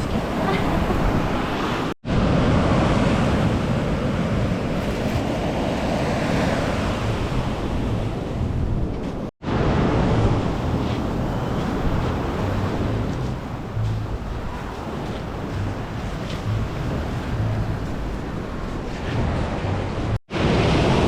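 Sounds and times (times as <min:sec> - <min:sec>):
surf breaking on beach: 0:00.0 - 0:08.0, 0:09.4 - 0:19.3, 0:20.3 - 0:21.0
wind buffeting microphone: 0:00.0 - 0:21.0.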